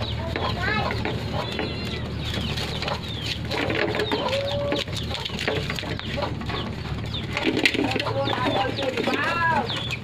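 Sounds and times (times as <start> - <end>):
chickens clucking and chirping: 0.0 - 10.0
puppies eating from a pan: 0.0 - 10.0.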